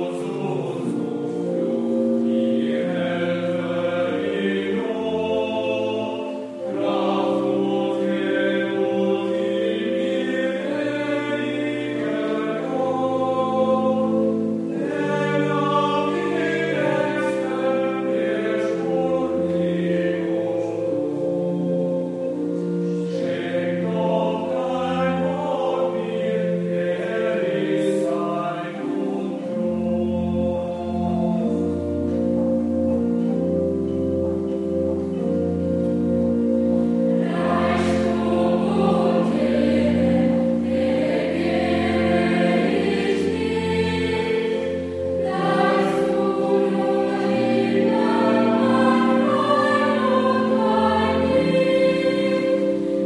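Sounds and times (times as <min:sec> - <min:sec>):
youth choir singing in harmony: 0:00.0 - 0:53.0.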